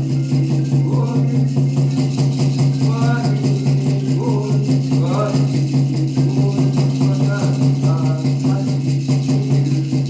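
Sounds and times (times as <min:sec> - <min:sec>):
gourd rattle shaking: 0:00.0 - 0:10.0
man singing a chant: 0:00.0 - 0:10.0.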